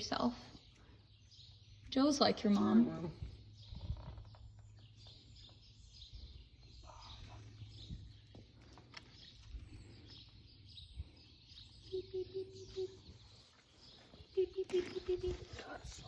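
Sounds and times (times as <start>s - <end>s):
faint high bird chirps: 0.0s - 16.0s.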